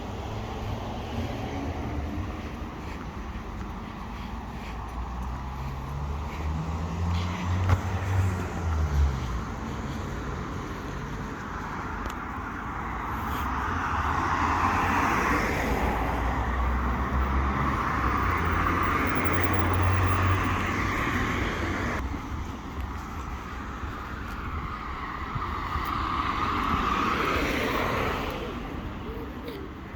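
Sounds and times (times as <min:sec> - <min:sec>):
passing vehicle: 0:00.0 - 0:29.9
street traffic rumble: 0:00.0 - 0:29.9.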